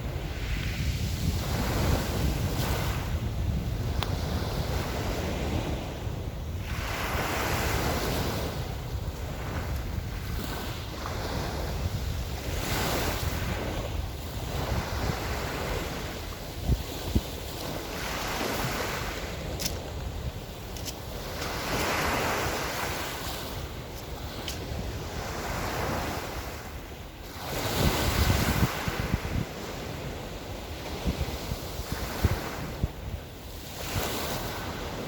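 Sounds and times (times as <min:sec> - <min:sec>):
small waves washing onto shore: 0:00.0 - 0:35.0
wind buffeting microphone: 0:00.0 - 0:35.0.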